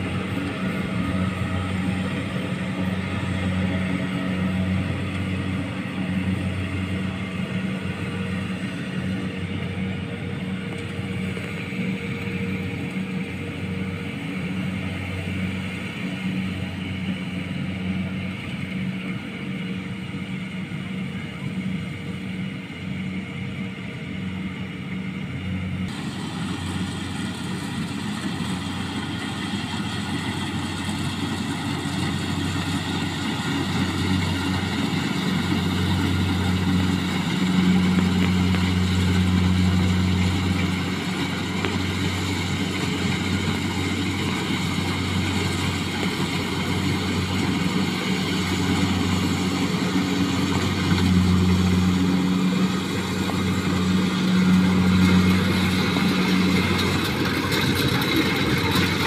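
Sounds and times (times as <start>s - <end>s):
harvester engine drone: 0.0s - 59.0s.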